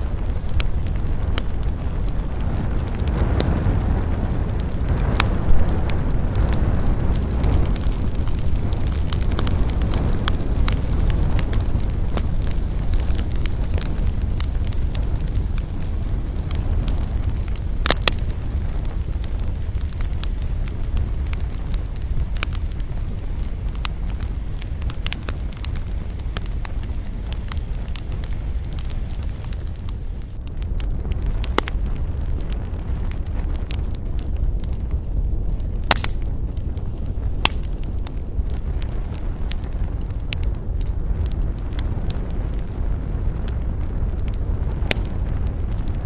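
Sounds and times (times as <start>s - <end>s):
campfire wood crackling and popping: 0.0s - 46.0s
low rumble of flame: 0.0s - 46.0s.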